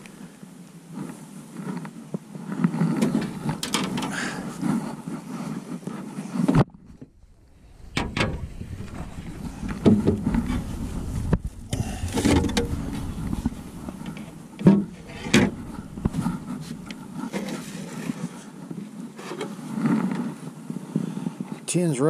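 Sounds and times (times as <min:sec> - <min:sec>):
wind rumbling on microphone: 0:00.8 - 0:21.6.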